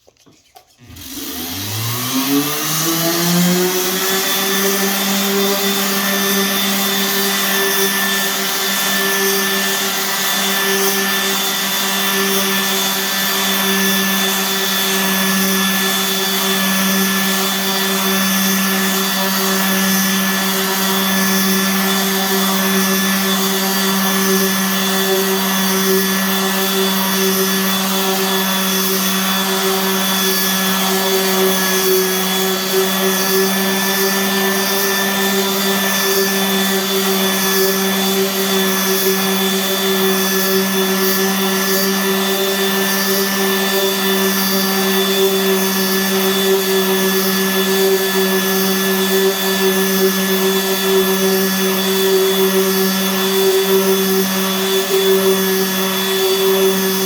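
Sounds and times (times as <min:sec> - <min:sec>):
power sander on wood: 0:00.4 - 0:57.0.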